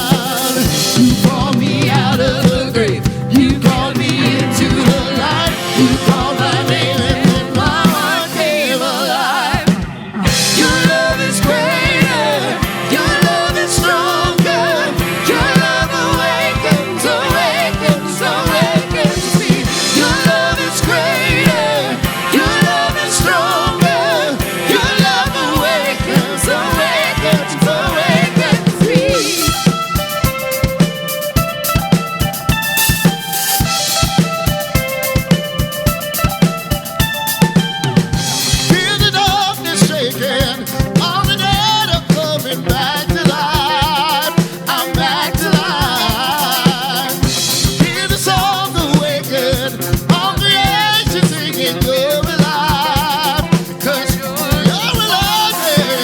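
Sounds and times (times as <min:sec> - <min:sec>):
drum kit beat: 0:00.0 - 0:56.0
worship band singing: 0:00.0 - 0:56.0.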